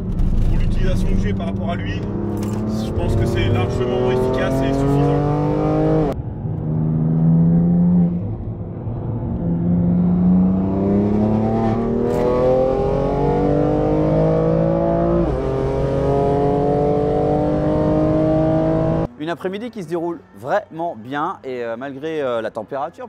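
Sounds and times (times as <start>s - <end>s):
car engine accelerating hard: 0.0s - 19.1s.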